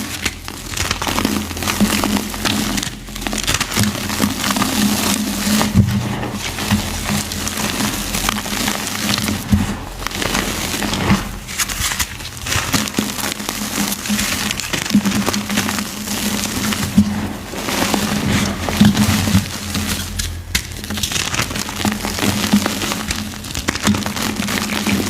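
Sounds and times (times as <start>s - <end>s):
chalk being crushed: 0.0s - 25.0s.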